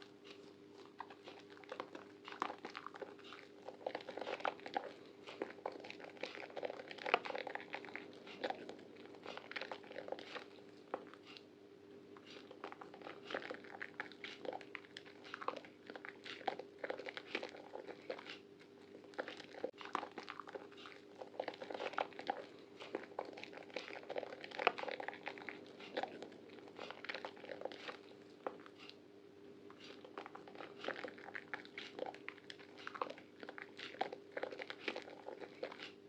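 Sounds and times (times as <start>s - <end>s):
faint steady hum: 0.0s - 36.0s
soap squeezed and lathered: 0.3s - 11.4s, 12.2s - 29.0s, 29.7s - 36.0s.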